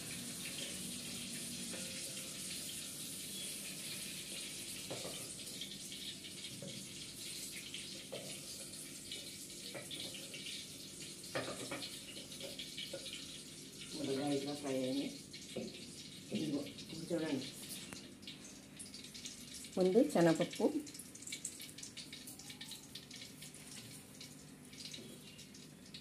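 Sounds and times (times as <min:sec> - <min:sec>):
chillies sizzling in hot oil: 0:00.0 - 0:26.0.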